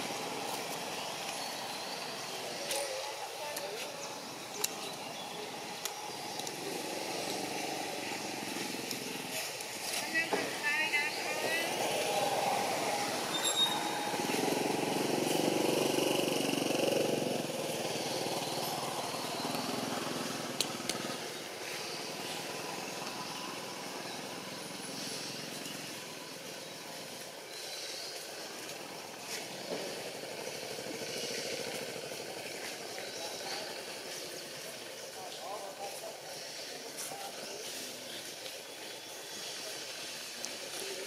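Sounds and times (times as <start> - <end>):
outdoor background noise: 0.0 - 41.0.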